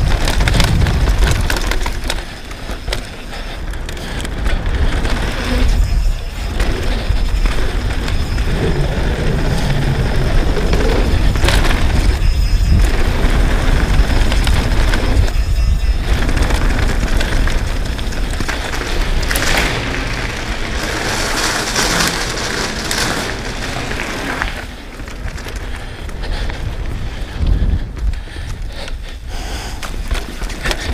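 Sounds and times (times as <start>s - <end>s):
bike rattling: 0.0s - 30.9s
bike tyres crunching on gravel: 0.0s - 30.9s
wind buffeting microphone: 0.0s - 30.9s.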